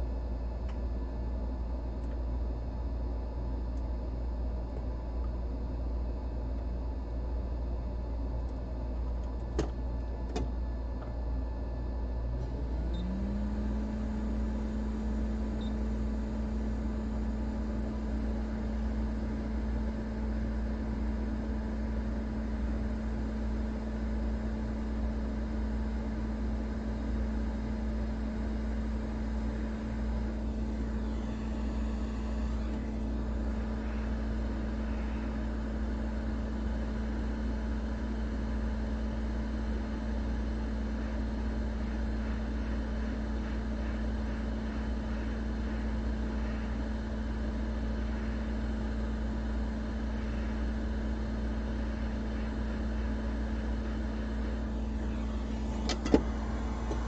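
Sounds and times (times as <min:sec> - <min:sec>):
constant low hum: 0:00.0 - 0:57.0
hot air blower spinning up: 0:07.8 - 0:57.0.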